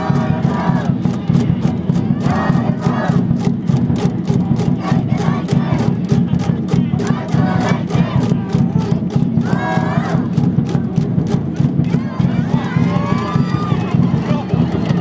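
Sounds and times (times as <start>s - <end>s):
crowd chanting and shouting: 0.0s - 15.0s
fast even beat: 0.0s - 15.0s.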